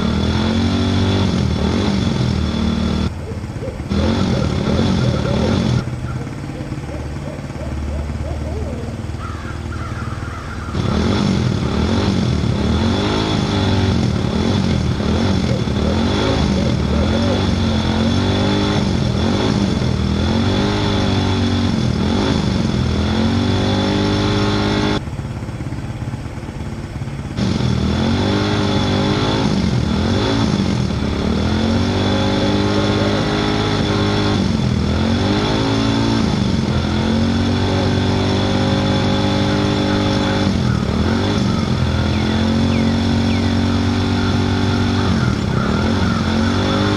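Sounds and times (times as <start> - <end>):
small engine revving: 0.0 - 46.9
steady high whine: 0.0 - 46.9.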